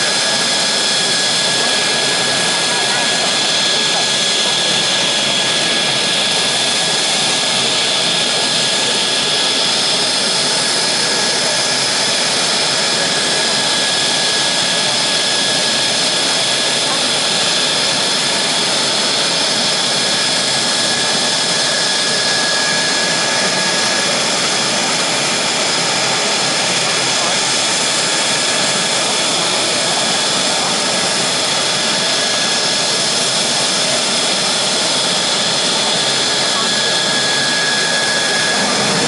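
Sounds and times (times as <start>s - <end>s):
jet engine high whine: 0.0s - 39.0s
jet engine roaring: 0.0s - 39.0s.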